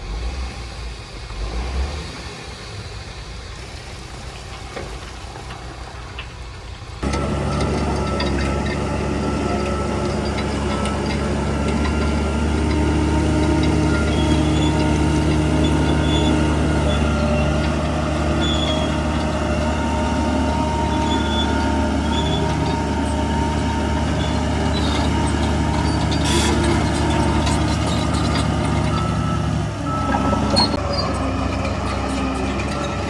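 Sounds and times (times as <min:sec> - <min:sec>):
heavy diesel machinery running: 0:02.4 - 0:33.0.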